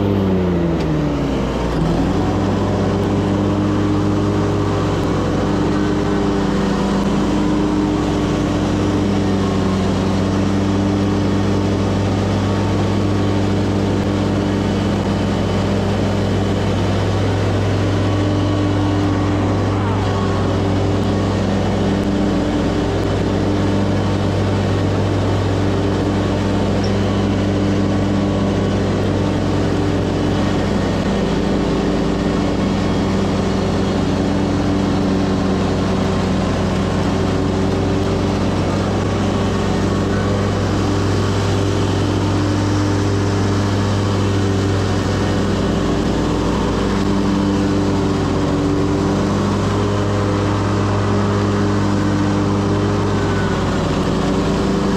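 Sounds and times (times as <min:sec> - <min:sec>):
lawn mower engine running: 0:00.0 - 0:54.9.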